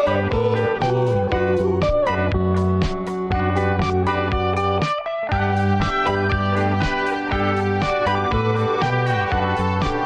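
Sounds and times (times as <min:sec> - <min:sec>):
low bass line: 0:00.0 - 0:10.0
plucked guitar tune: 0:00.0 - 0:10.0.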